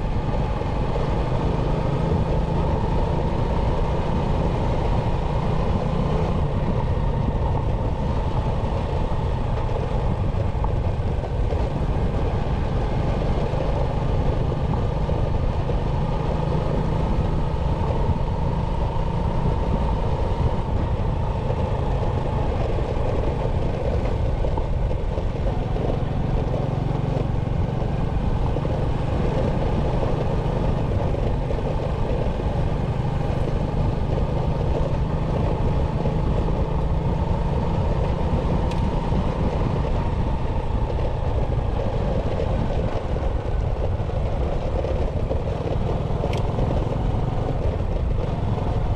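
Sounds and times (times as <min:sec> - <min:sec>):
motorcycle engine running: 0:00.0 - 0:48.9
road and riding noise: 0:00.0 - 0:48.9.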